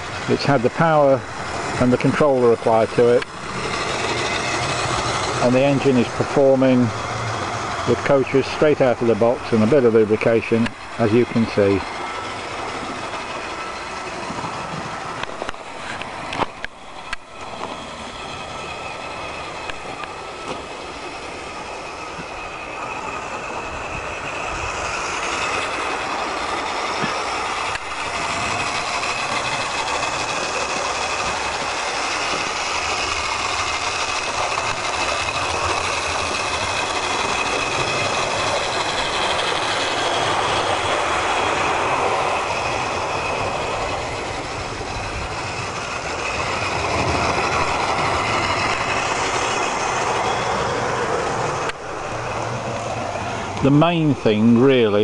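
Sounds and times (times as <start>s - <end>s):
model train rattling on track: 0.0s - 55.0s.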